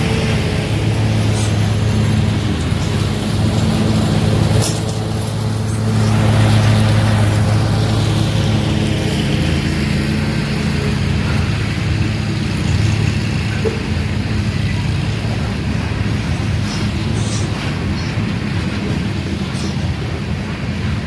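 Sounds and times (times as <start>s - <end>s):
diesel locomotive engines droning: 0.0s - 21.0s.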